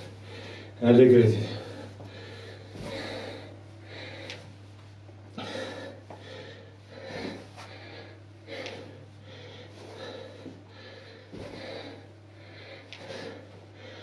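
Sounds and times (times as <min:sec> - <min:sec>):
man breathing hard: 0:00.0 - 0:04.6, 0:05.3 - 0:14.0
steady low hum: 0:00.0 - 0:14.0.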